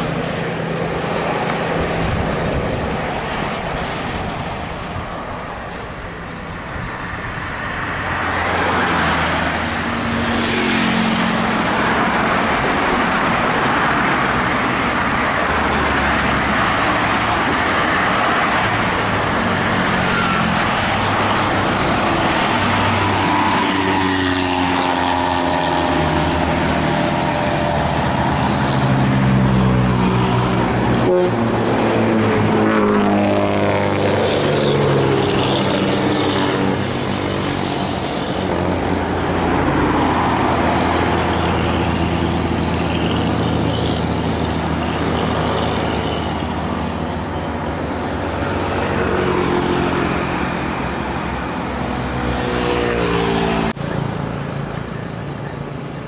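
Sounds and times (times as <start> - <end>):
diesel bus engines pulling away: 0.0 - 56.0.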